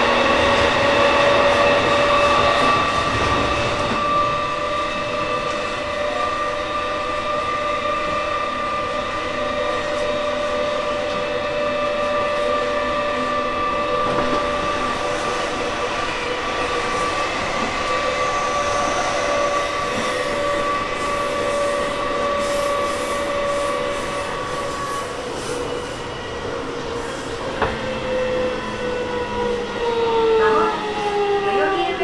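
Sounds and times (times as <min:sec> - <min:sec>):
train motor high whine: 0:00.0 - 0:32.0
train rail and wheel noise: 0:00.0 - 0:32.0.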